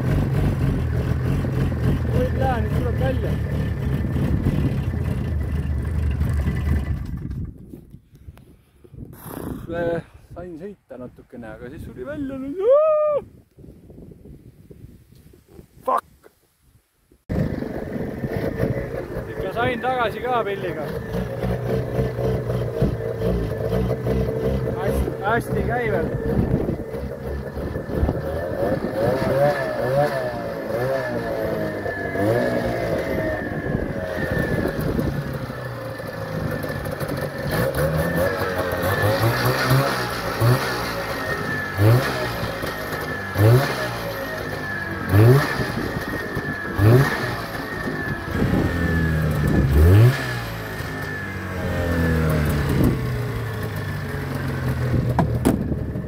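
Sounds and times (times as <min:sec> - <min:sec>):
snowmobile engine throttle blips: 0:00.0 - 0:08.4, 0:17.3 - 0:56.0.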